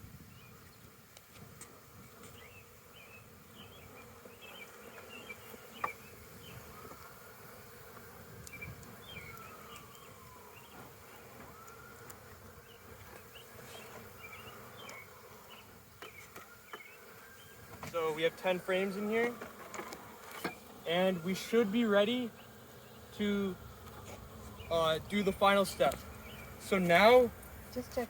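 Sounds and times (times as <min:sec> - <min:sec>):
single bees droning past: 0:00.2 - 0:28.0
bees buzzing: 0:00.3 - 0:28.0.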